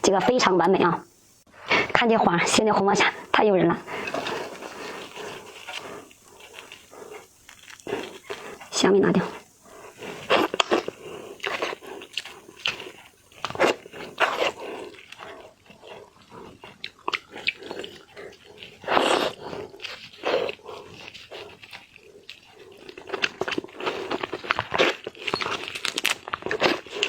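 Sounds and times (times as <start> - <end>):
person chewing and slurping shrimp: 3.1 - 27.0.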